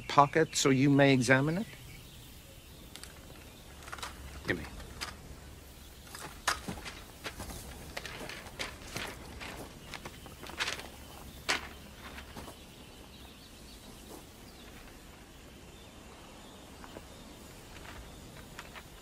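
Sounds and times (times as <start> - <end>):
quiet outdoor ambience: 0.0 - 19.0.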